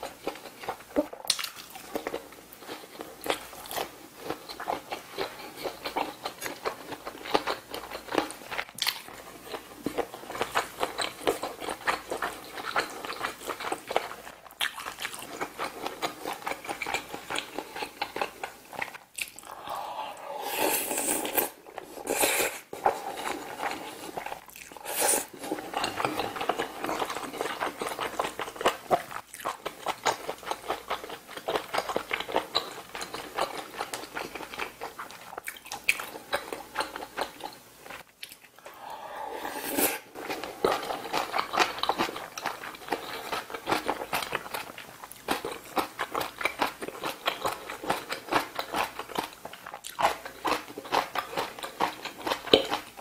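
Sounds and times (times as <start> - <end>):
wet chewing and smacking: 0.0 - 19.6, 25.4 - 38.6, 40.2 - 53.0.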